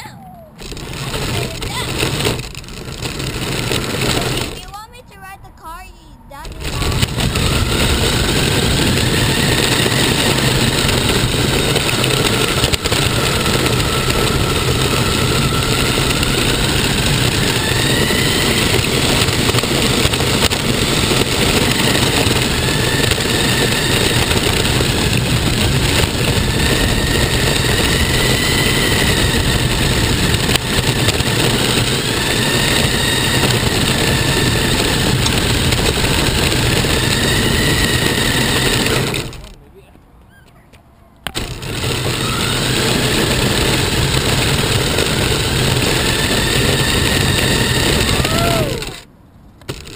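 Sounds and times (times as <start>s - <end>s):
rc car motor whine: 0.0s - 5.0s, 5.6s - 39.6s, 41.2s - 49.9s
steady noisy rush: 0.0s - 39.9s, 41.2s - 49.9s.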